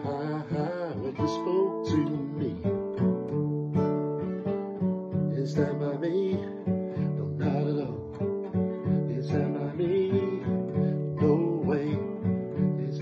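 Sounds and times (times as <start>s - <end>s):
person singing: 0.0s - 3.0s, 5.3s - 13.0s
acoustic guitar strumming: 0.0s - 13.0s.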